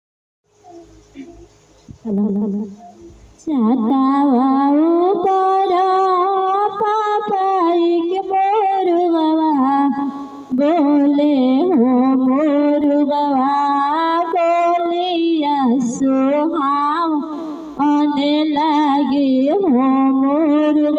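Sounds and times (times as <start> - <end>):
woman singing into microphone: 2.0 - 20.9.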